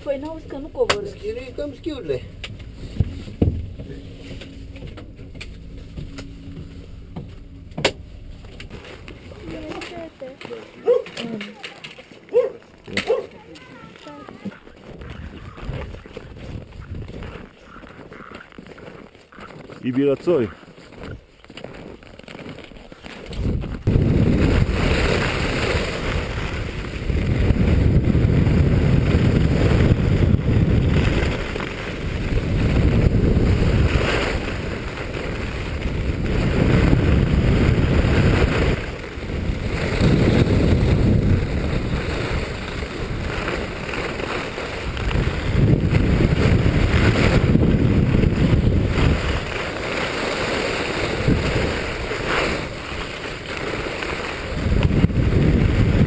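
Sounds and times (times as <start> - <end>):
skis scraping on snow: 0.0 - 7.5, 8.3 - 56.0
wind rushing over microphone: 0.0 - 10.4, 14.8 - 17.5, 23.2 - 56.0.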